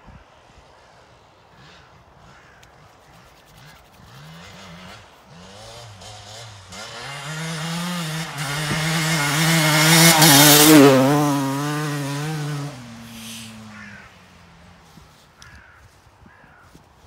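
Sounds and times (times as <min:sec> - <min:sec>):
motocross bike passing: 0:00.4 - 0:15.8.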